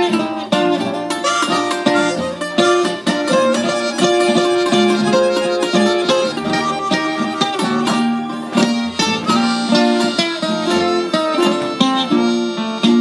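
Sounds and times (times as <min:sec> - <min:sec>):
picked guitar lead: 0:00.0 - 0:13.0
bass and rhythm backing: 0:00.1 - 0:13.0.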